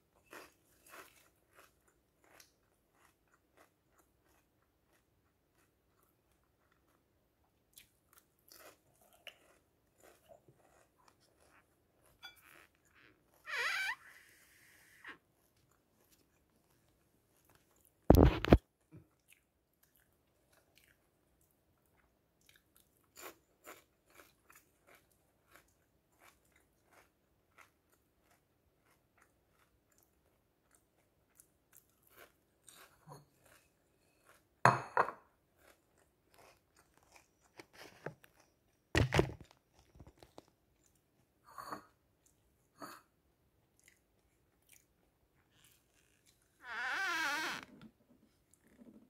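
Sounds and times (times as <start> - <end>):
crunching and chewing snack: 0.1 - 13.4, 15.4 - 34.6, 35.4 - 41.1, 43.7 - 46.5.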